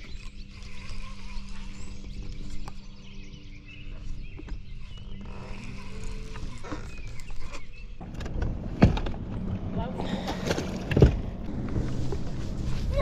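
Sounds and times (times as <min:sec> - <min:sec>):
birds chirping: 0:00.0 - 0:11.5
boat motor humming: 0:00.0 - 0:13.0.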